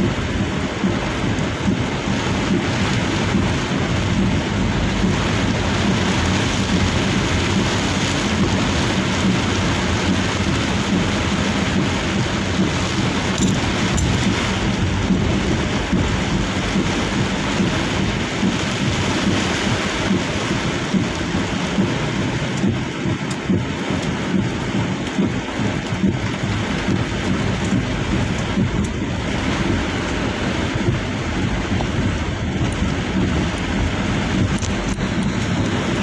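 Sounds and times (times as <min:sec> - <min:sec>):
heavy rain on vehicle roof: 0:00.0 - 0:36.0.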